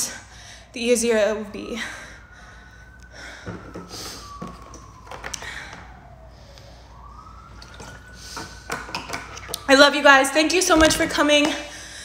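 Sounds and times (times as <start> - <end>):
faint siren wailing: 0.0 - 12.0.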